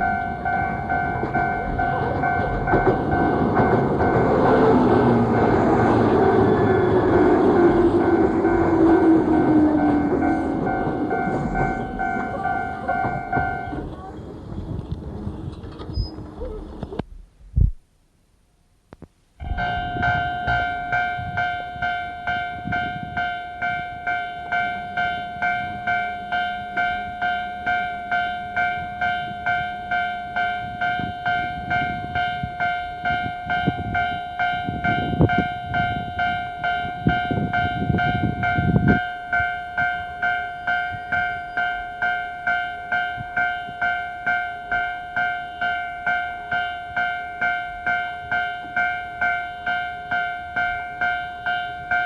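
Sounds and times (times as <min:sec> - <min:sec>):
level crossing alarm ringing: 0:00.0 - 0:14.0, 0:19.4 - 0:52.0
train rumbling past: 0:00.0 - 0:17.0, 0:19.4 - 0:52.0.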